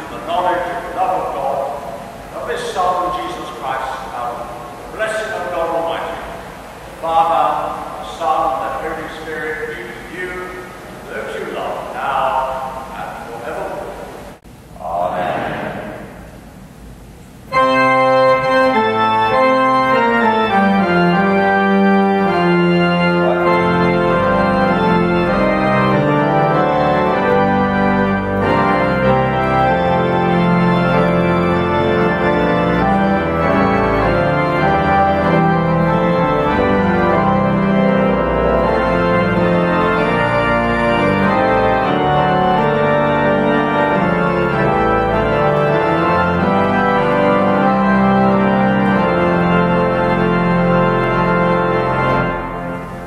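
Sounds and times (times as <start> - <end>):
church organ playing chords: 0.0 - 14.4, 17.5 - 53.0.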